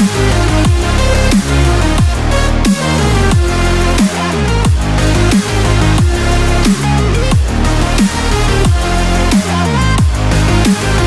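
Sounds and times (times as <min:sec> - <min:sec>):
heavy bass line swooping down: 0:00.0 - 0:11.0
sustained synth chords: 0:00.0 - 0:11.0.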